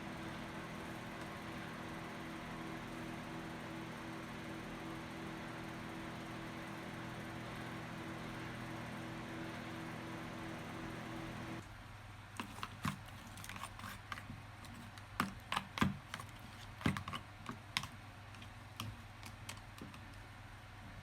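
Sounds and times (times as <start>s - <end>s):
appliance hum: 0.0s - 21.0s.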